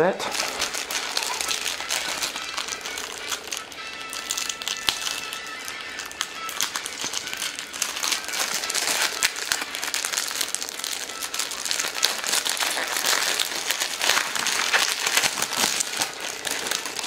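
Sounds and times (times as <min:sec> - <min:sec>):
plastic shrink wrap crinkling: 0:00.0 - 0:17.0.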